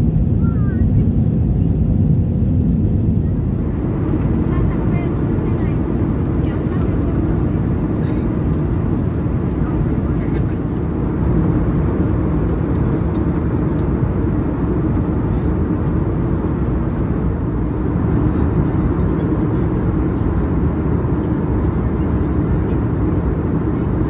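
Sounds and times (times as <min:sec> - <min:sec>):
aircraft cabin engine rumble: 0:00.0 - 0:24.0.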